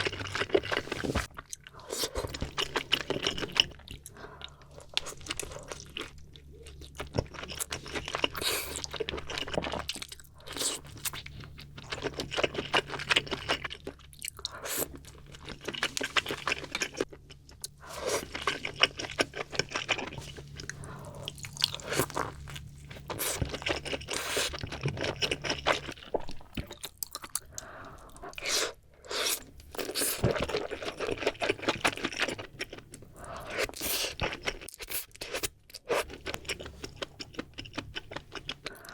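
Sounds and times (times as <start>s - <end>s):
crunching and chewing seafood: 0.0s - 38.9s.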